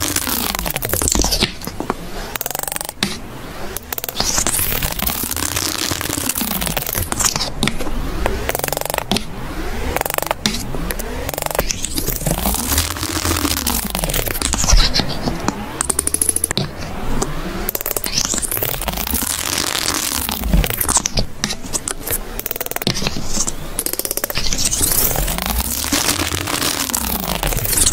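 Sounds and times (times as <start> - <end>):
palette knife scraping wet paint: 0.0 - 7.9, 9.9 - 16.9, 17.8 - 27.9.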